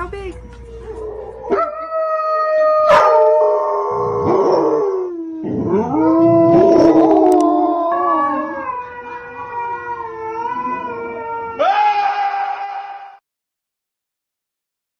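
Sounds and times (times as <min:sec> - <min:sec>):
dogs howling: 0:00.3 - 0:13.2.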